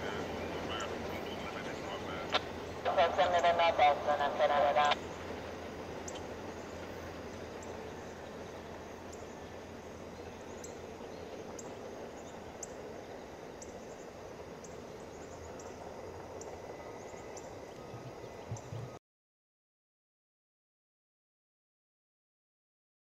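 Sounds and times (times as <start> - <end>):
low outdoor background: 0.0 - 19.0.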